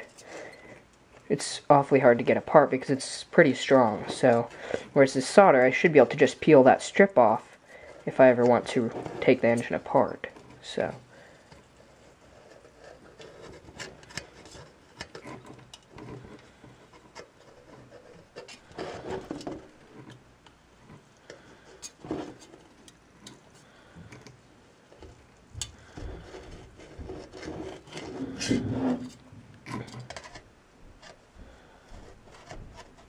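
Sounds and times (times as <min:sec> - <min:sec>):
rubbing and scraping on metal: 0:01.5 - 0:20.2, 0:20.8 - 0:24.2, 0:25.8 - 0:33.0.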